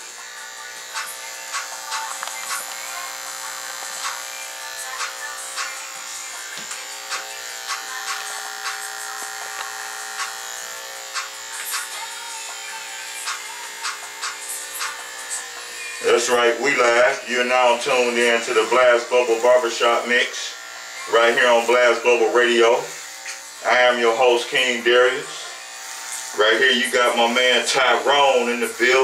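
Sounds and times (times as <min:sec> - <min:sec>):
hair clippers buzzing: 0:00.0 - 0:29.0
hair clipper clicks: 0:00.2 - 0:28.0.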